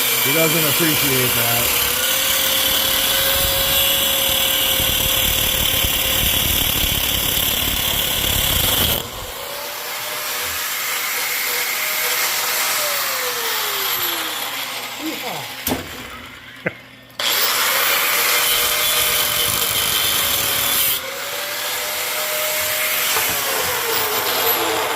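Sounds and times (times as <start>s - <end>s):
electric metalworking tool: 0.0s - 24.9s.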